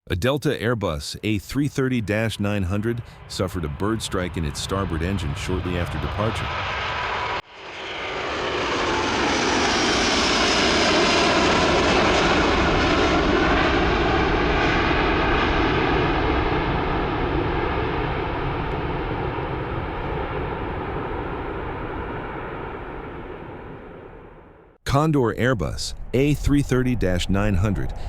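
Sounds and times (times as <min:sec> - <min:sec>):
jet engines roaring: 0:01.7 - 0:24.4, 0:25.6 - 0:28.0.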